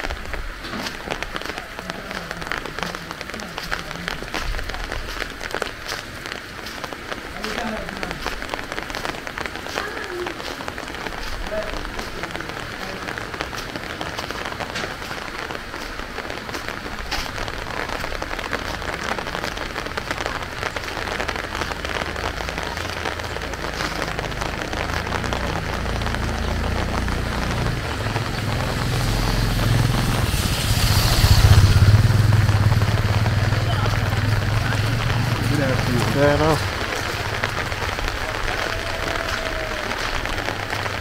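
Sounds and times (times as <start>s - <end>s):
heavy rain pattering: 0.0s - 41.0s
vehicle engine rumble: 0.0s - 41.0s.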